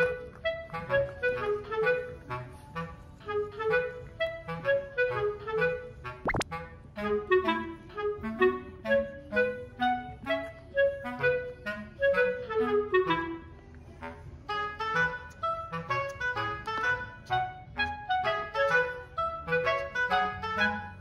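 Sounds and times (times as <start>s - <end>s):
bouncy clarinet tune: 0.0s - 21.0s.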